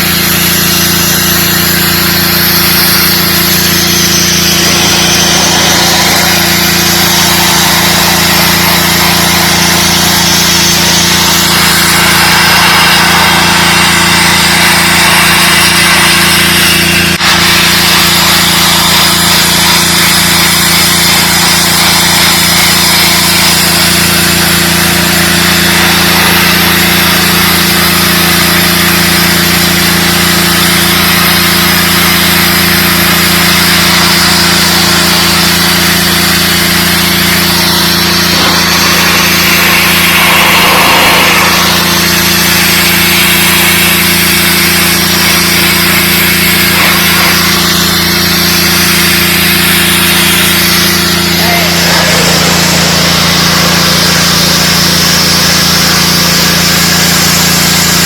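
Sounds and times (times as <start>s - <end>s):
high-pressure water spray hissing: 0.0s - 58.0s
small engine humming: 0.0s - 58.0s.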